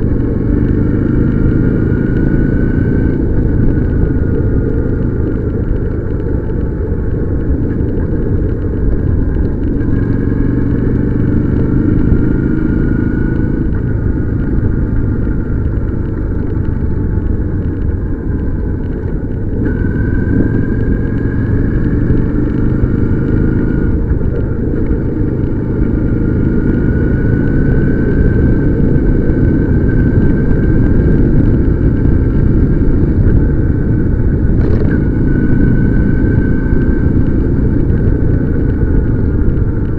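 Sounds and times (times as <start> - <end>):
heavy low rumble: 0.0 - 39.9
motorcycle engine accelerating: 0.0 - 39.9.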